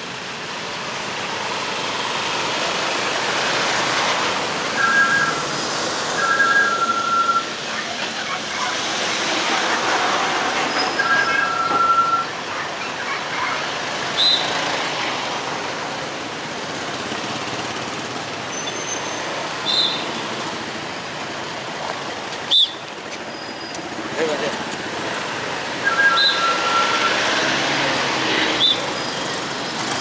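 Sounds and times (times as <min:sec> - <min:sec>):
scooter engine and road noise: 0:00.0 - 0:30.0.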